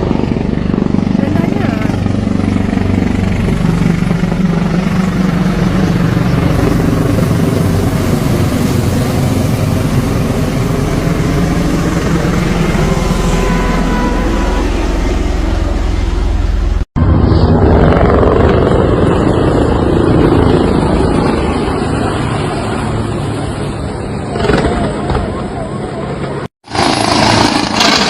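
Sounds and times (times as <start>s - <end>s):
helicopter rotor beating: 0.0s - 28.0s.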